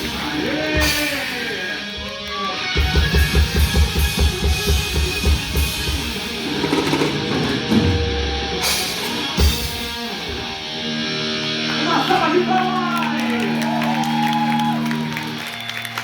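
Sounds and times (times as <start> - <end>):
live thrash band playing: 0.0 - 16.0.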